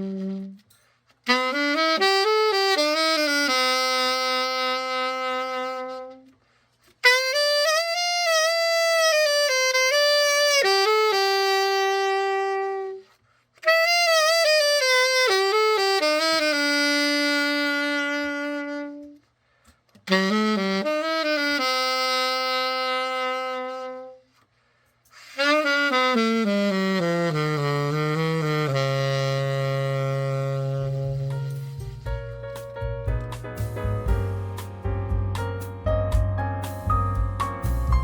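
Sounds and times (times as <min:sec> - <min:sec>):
alto saxophone slow melody: 0:00.0 - 0:24.5, 0:25.1 - 0:38.0.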